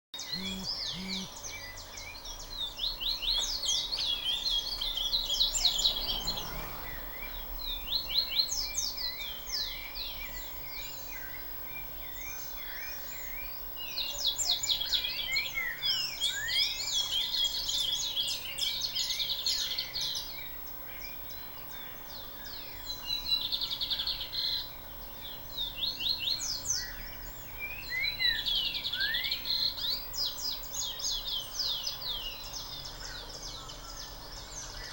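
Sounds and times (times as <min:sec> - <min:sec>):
small birds chirping and twittering: 0:00.2 - 0:34.9.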